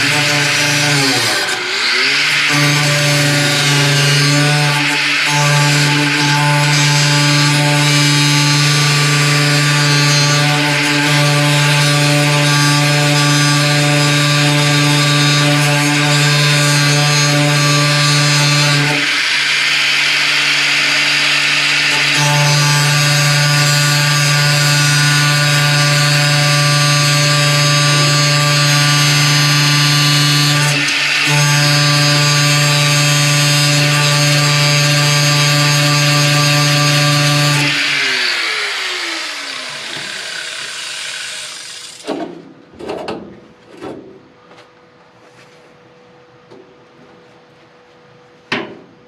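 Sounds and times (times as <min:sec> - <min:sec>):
power tool motor hum: 0:00.0 - 0:42.1.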